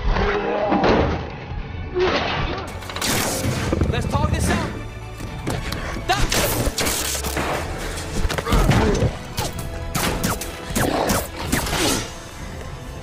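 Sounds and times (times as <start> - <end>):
dramatic music score: 0.0 - 13.0.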